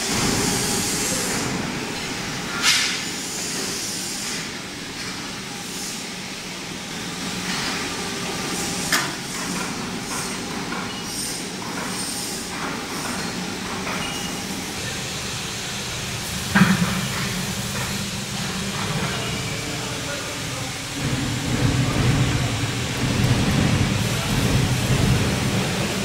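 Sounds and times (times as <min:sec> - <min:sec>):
industrial machinery humming: 0:00.0 - 0:26.0.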